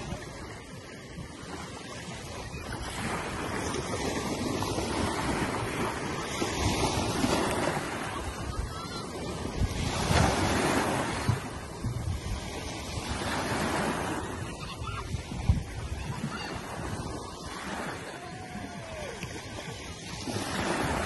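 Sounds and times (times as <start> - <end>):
small waves breaking on beach: 0.0 - 21.0.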